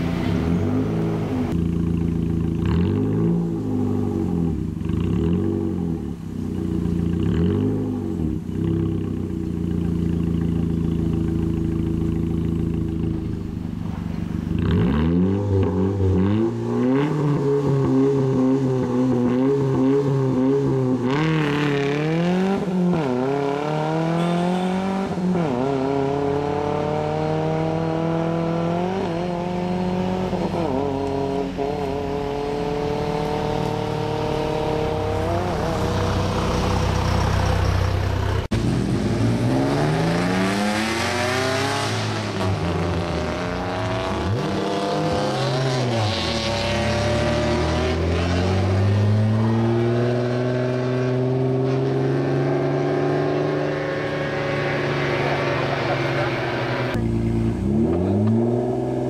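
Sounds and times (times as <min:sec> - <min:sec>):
rally car engine accelerating: 0:00.0 - 0:59.0.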